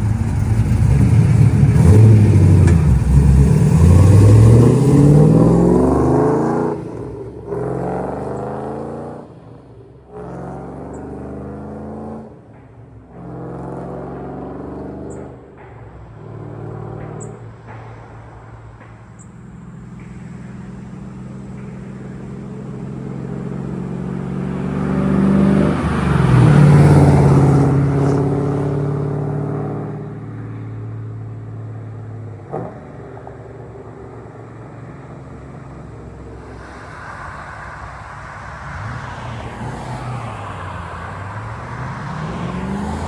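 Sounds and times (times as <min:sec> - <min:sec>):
car engine passing by: 0:00.0 - 0:12.5, 0:19.5 - 0:43.0.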